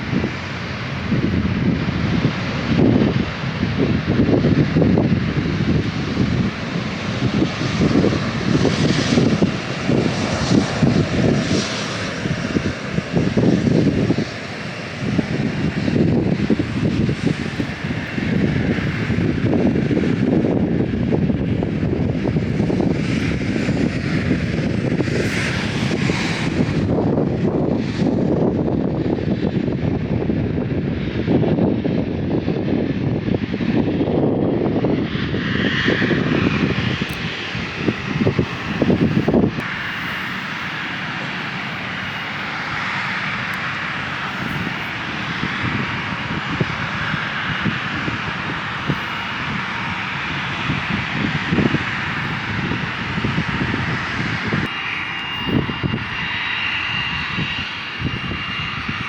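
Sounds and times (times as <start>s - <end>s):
jet engines hissing: 0.0s - 29.9s, 35.0s - 59.0s
wind buffeting microphone: 0.0s - 59.0s.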